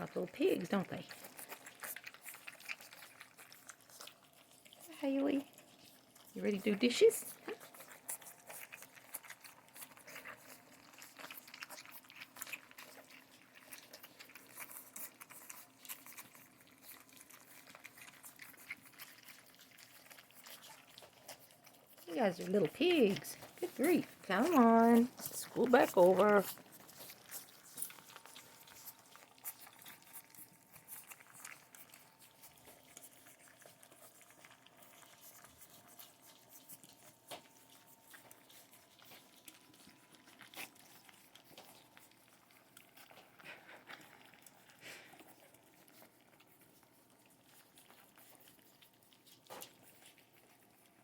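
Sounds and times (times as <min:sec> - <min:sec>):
puppies lapping and chewing: 0:00.0 - 0:51.0.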